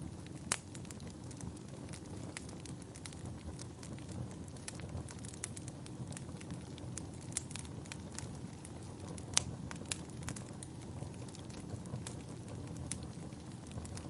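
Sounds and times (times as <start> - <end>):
fire crackling and popping: 0.0 - 14.0
fire rumbling in fireplace: 0.0 - 14.0.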